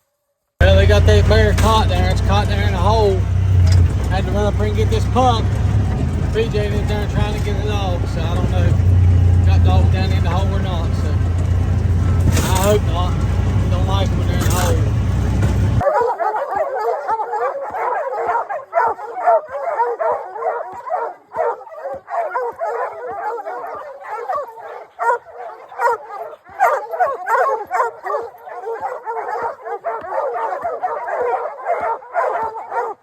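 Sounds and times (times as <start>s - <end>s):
dogs yipping and whining: 0.6s - 33.0s
hounds barking and bawling: 0.6s - 33.0s.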